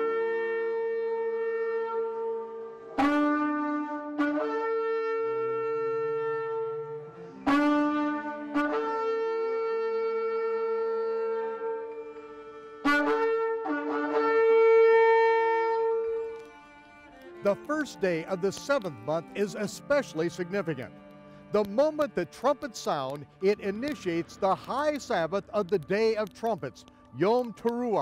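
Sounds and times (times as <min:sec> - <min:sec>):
shofars blowing long blasts: 0:00.0 - 0:28.0.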